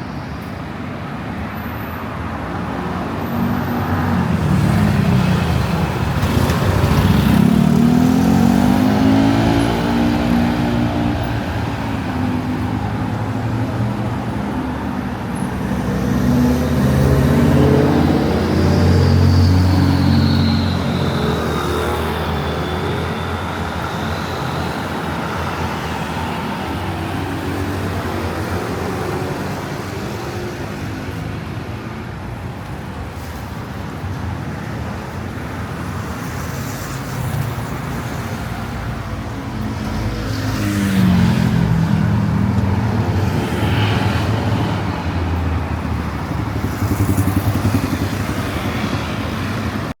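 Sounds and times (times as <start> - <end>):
road traffic noise: 0.0 - 50.0.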